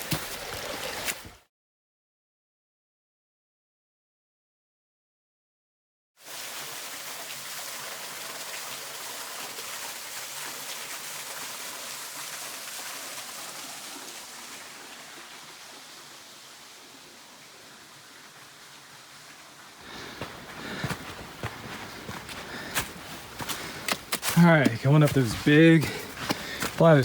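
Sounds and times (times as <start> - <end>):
creek water rushing over rocks: 0.0 - 1.4, 6.3 - 27.0.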